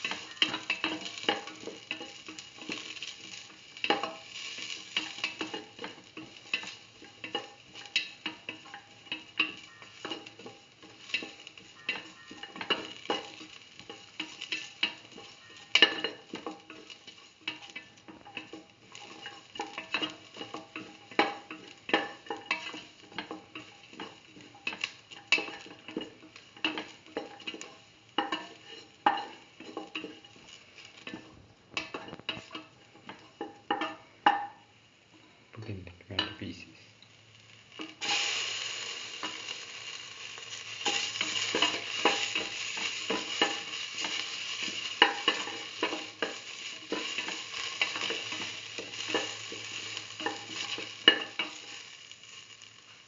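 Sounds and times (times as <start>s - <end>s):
spatula scraping and tapping pan: 0.0s - 35.2s, 37.7s - 53.0s
oil sizzling: 0.0s - 53.0s.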